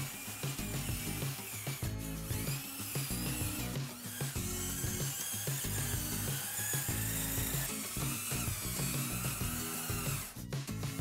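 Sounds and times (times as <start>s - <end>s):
music with bass line: 0.0s - 5.1s, 5.7s - 11.0s.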